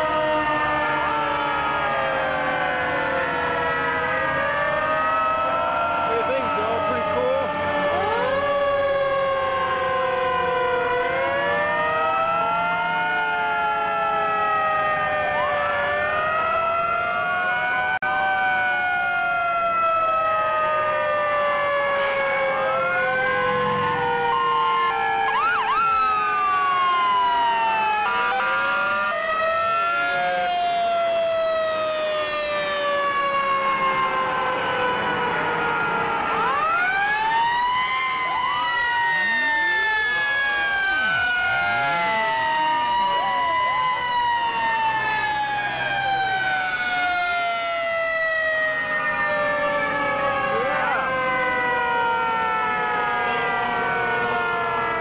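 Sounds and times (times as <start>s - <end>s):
siren whoop: 0.0s - 55.0s
sirens wailing: 0.0s - 55.0s.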